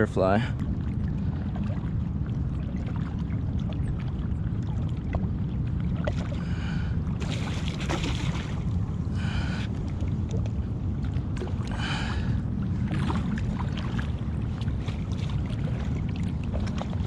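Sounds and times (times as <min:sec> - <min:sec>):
wind rumble on microphone: 0:00.0 - 0:17.0
water splashing: 0:00.2 - 0:17.0.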